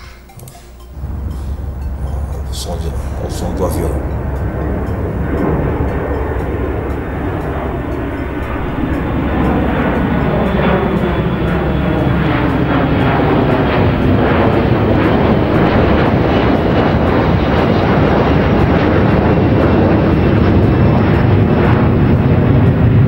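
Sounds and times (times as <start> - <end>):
airplane engine rumble: 0.0 - 23.0.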